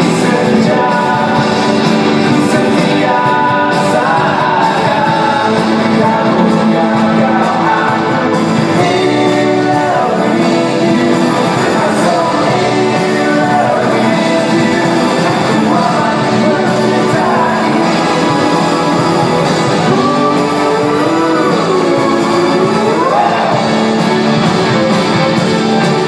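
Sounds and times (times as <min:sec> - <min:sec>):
person singing long notes: 0:00.0 - 0:26.0
rock band playing live: 0:00.0 - 0:26.0.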